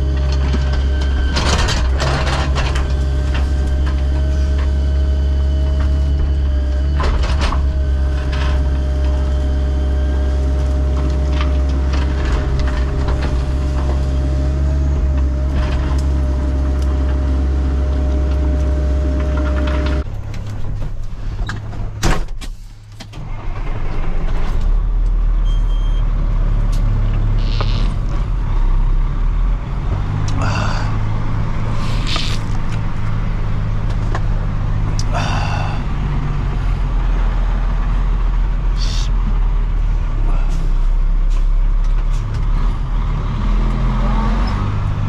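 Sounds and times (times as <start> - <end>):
heavy engine running: 0.0 - 45.0.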